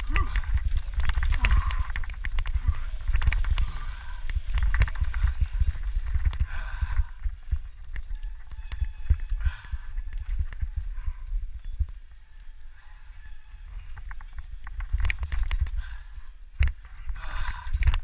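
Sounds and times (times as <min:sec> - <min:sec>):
bike rattling over bumps: 0:00.0 - 0:18.0
wind rumble on microphone: 0:00.0 - 0:18.0.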